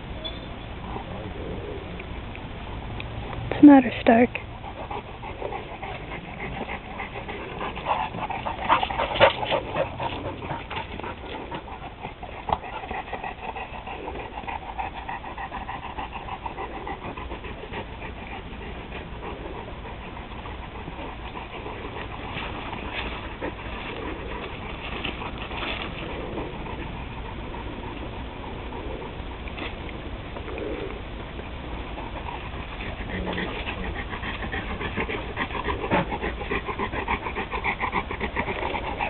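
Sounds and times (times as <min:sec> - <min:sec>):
dogs panting: 0:00.7 - 0:39.0.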